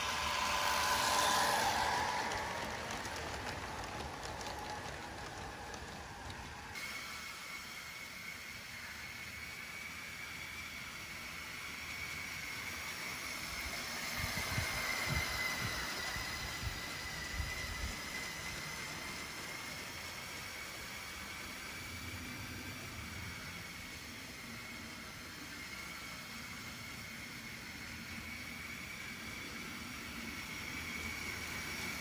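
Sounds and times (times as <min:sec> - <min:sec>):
toy train motors whining: 0:00.0 - 0:32.0.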